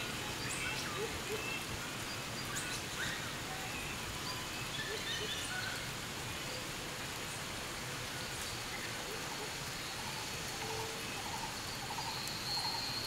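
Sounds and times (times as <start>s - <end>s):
light rain on foliage: 0.0s - 13.0s.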